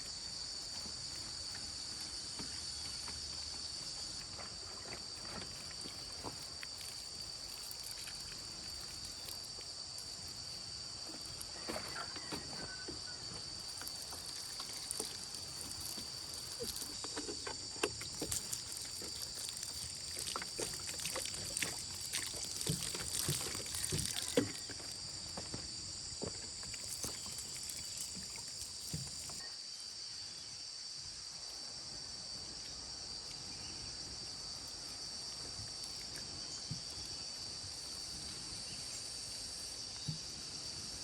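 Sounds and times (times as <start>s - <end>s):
insects chirping chorus: 0.0s - 41.0s.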